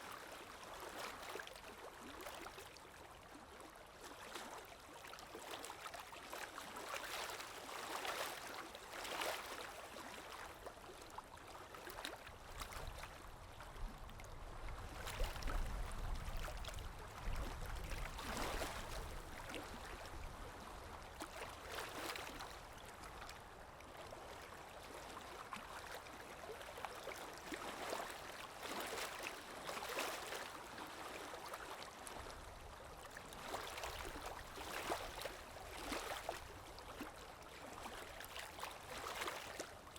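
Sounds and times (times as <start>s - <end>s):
sea waves lapping and splashing: 0.0s - 39.9s.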